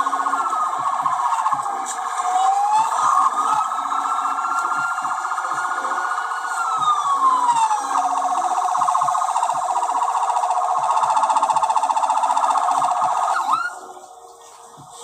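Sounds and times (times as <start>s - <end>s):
ambulance siren wailing and yelping: 0.0s - 13.9s.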